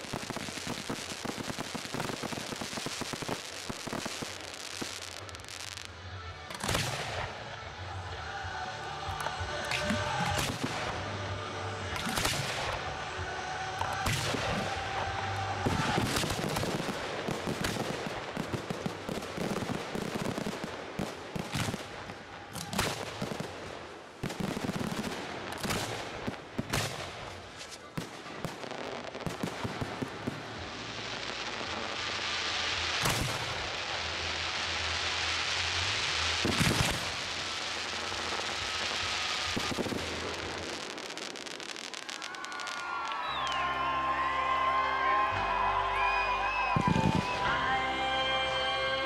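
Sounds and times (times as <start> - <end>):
fireworks bursting: 0.0 - 49.0.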